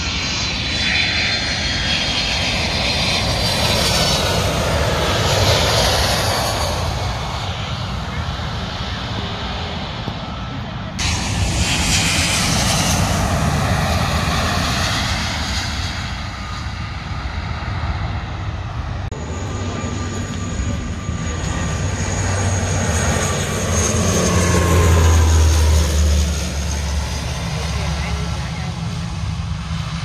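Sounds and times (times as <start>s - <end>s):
jet airliner passing low: 0.0s - 30.0s
low propeller hum: 0.0s - 30.0s
turboprop engine whine: 0.0s - 30.0s.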